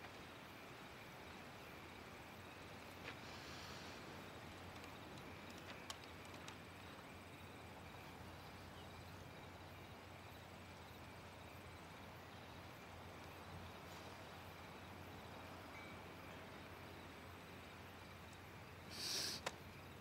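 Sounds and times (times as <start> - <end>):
crickets chirping faintly: 0.0 - 20.0
low hum and hiss: 0.0 - 20.0.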